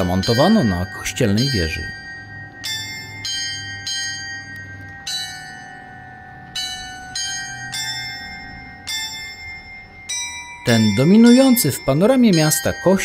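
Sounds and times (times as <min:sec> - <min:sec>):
carillon bell notes: 0:00.0 - 0:13.0.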